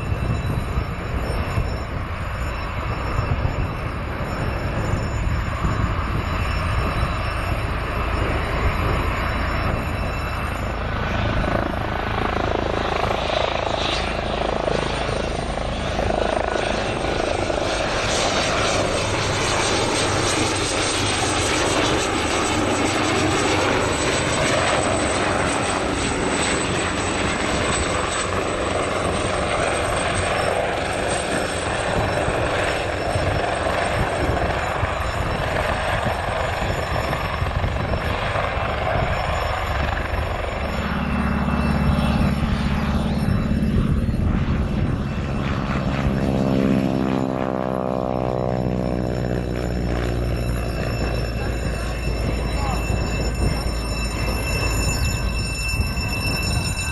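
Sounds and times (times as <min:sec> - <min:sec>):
helicopter rotor noise: 0:00.0 - 0:56.9
high turbine whine: 0:00.0 - 0:56.9
small plane engine: 0:00.0 - 0:56.9.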